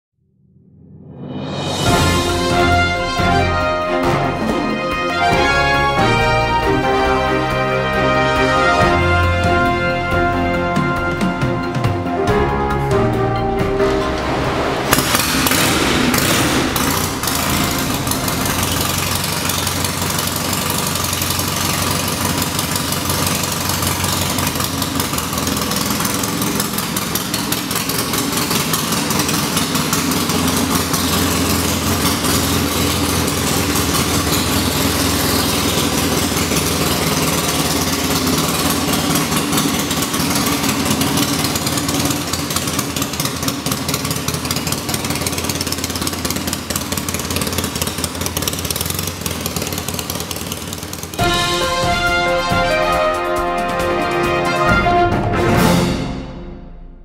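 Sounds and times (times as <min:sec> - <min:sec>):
motorcycle engine idling: 0:01.9 - 0:53.8.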